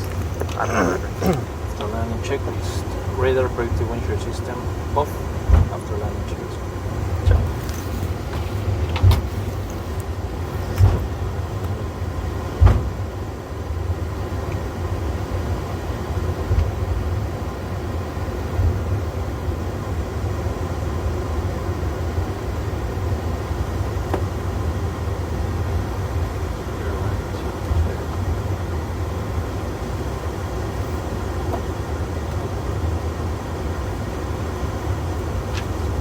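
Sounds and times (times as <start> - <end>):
aircraft cockpit low rumble: 0.0 - 36.0.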